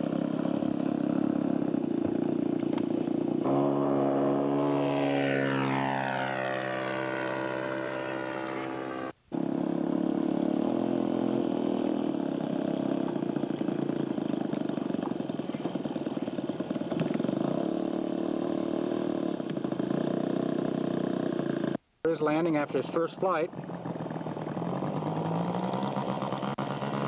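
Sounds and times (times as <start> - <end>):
model airplane engine: 0.0 - 27.0.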